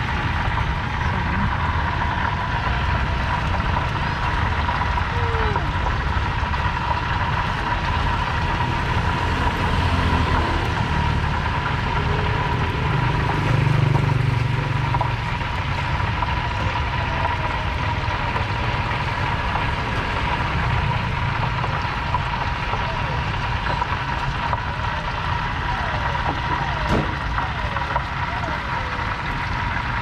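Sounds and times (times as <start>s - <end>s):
traffic engine rumble: 0.0s - 30.0s.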